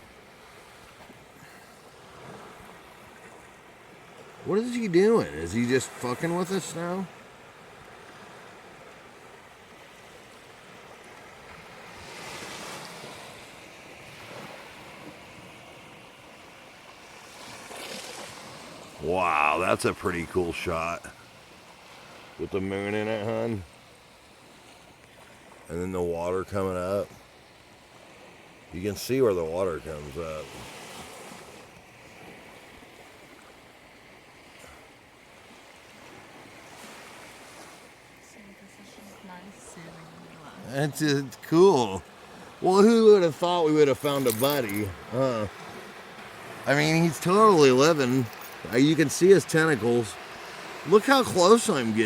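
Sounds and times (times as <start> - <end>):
ocean surf breaking: 0.0 - 52.0.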